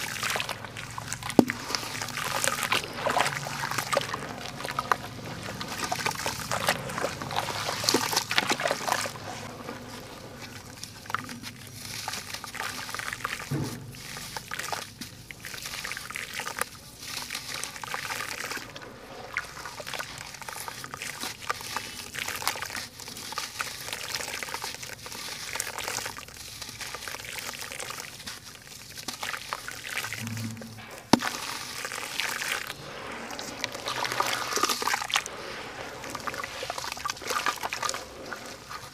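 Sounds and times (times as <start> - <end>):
hands sloshing in water: 0.0 - 22.8, 26.8 - 38.9.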